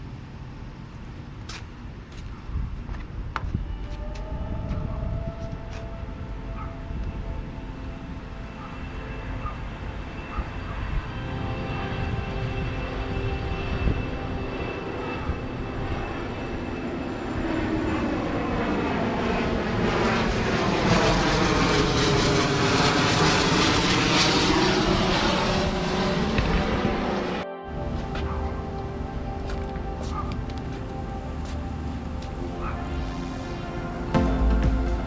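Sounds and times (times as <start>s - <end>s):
airplane flying over: 0.0s - 35.0s.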